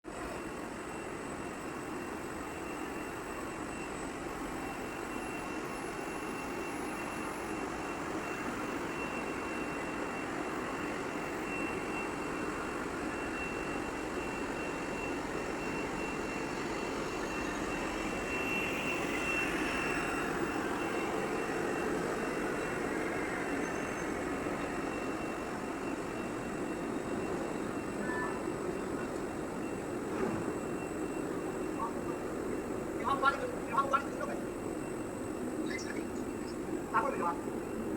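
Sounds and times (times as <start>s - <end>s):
high-pitched machine whine: 0.1s - 37.9s
steady machine noise: 0.1s - 37.9s.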